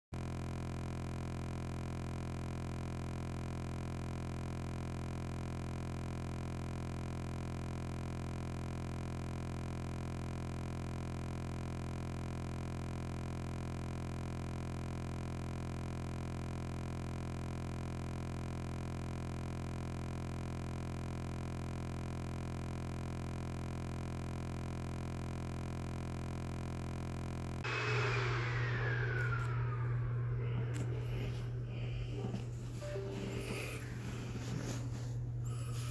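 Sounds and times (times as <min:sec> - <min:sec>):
steady electronic hum: 0:00.2 - 0:35.9.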